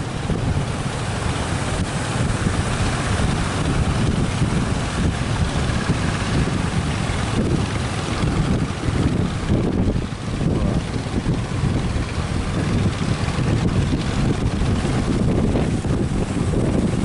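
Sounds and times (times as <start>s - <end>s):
sea washing: 0.0s - 17.0s
wind buffeting microphone: 0.0s - 17.0s.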